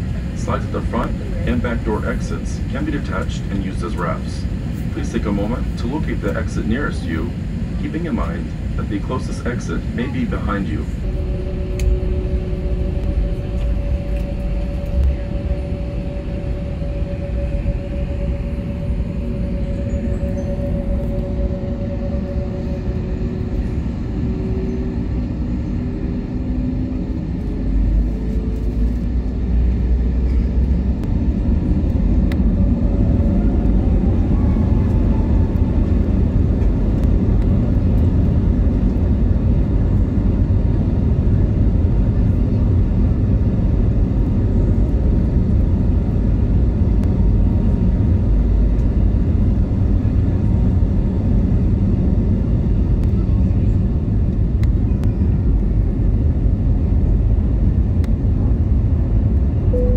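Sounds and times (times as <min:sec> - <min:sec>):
jet engines spooling up: 0:00.0 - 0:59.9.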